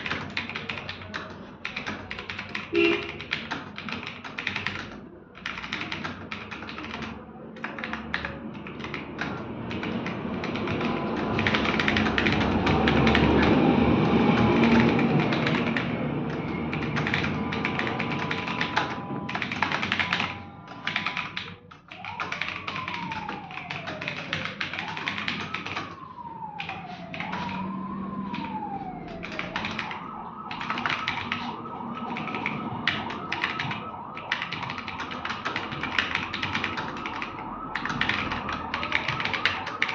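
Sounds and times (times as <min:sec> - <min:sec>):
emergency vehicle siren: 0:00.0 - 0:03.2, 0:07.0 - 0:39.9
fast keyboard typing: 0:00.0 - 0:39.9.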